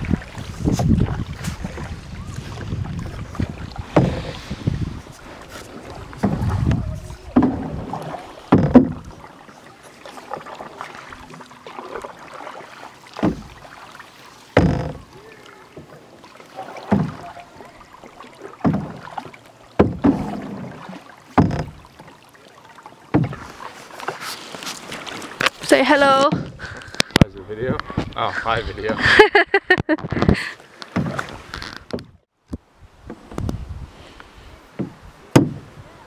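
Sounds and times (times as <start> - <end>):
canoe paddle strokes: 0.0 - 29.2, 29.9 - 36.0
paddle knocking hull: 0.0 - 29.2, 29.8 - 33.5, 34.7 - 36.0.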